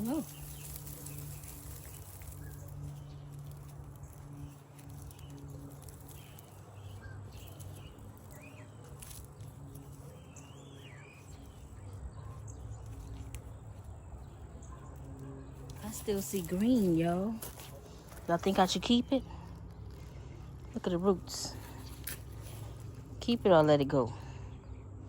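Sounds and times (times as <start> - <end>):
low outdoor hum: 0.0 - 25.0.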